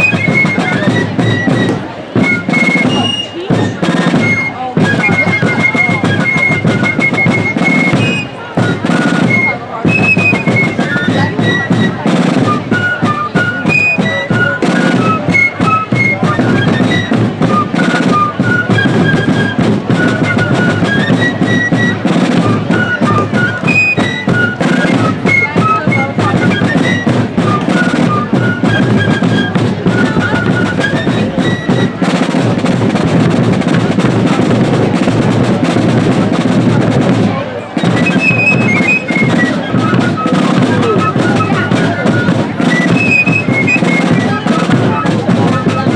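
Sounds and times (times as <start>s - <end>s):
shrill fifes playing: 0.0s - 36.5s, 37.8s - 45.9s
snare and bass drums: 0.0s - 45.9s.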